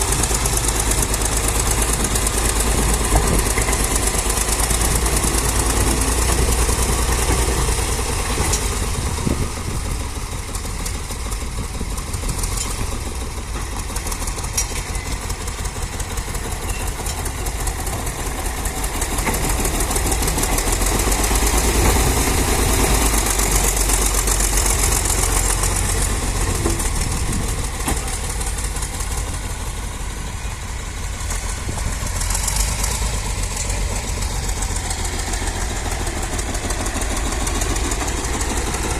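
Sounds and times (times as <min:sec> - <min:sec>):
tractor engine running under load: 0:00.0 - 0:38.9.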